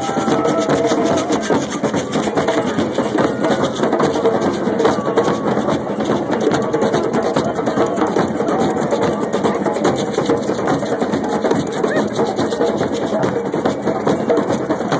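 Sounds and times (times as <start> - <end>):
crowd voices: 0.0 - 14.9
hand drums playing rhythm: 0.0 - 14.9.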